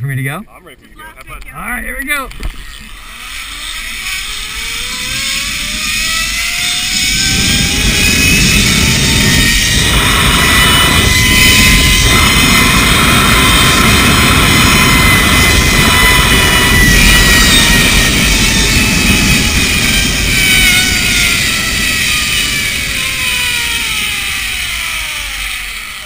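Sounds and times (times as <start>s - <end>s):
wind rush on microphone: 1.0s - 26.0s
zipline pulley whining on cable: 1.2s - 26.0s.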